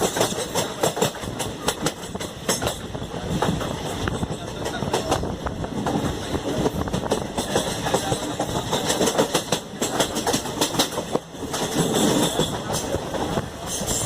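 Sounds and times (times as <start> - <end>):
train rumbling on track: 0.0 - 14.0
wheels clicking and knocking: 0.0 - 14.0.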